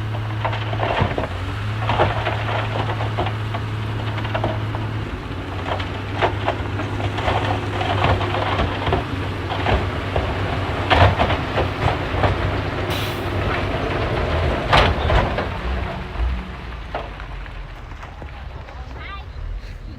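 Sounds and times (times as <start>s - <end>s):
clanks and crunches of tracks: 0.0s - 19.9s
diesel engine humming: 0.0s - 19.9s.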